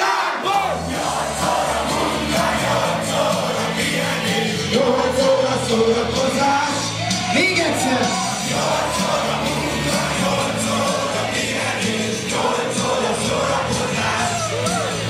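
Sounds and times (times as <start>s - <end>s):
dance music with singing: 0.0s - 15.0s
people yelling and shouting: 0.0s - 15.0s.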